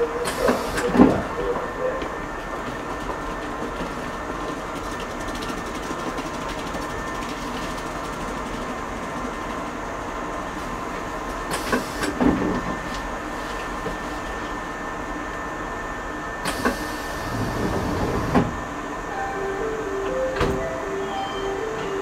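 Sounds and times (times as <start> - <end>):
train wheels rumbling on rail: 0.0 - 15.7, 16.4 - 19.0.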